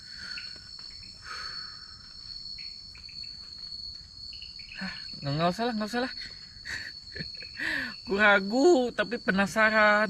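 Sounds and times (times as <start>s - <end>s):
crickets trilling: 0.0s - 10.0s
faint insect calls: 0.0s - 10.0s.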